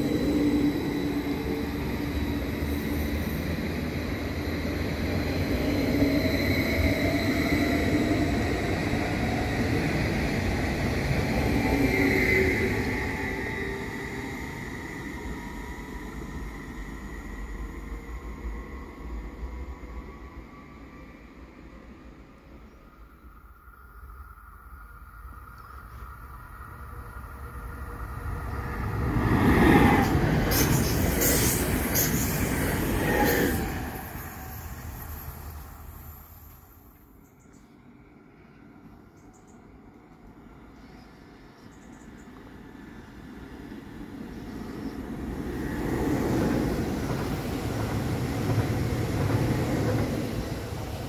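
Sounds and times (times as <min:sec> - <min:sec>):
train rumbling past: 0:00.0 - 0:51.0.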